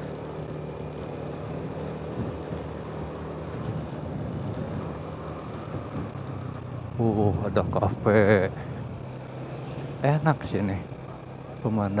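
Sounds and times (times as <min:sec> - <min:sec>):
motorcycle engine running: 0:00.0 - 0:12.0
road noise: 0:00.0 - 0:12.0.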